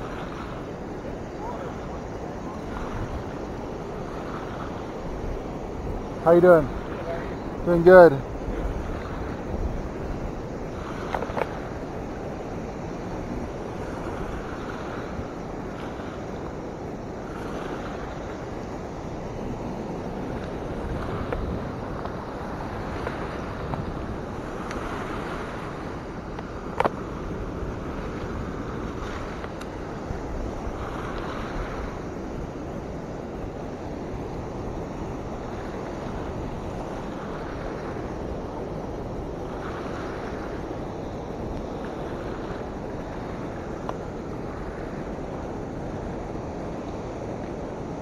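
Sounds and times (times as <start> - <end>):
turbulent water rushing: 0.0 - 48.0
wind buffeting microphone: 0.0 - 48.0.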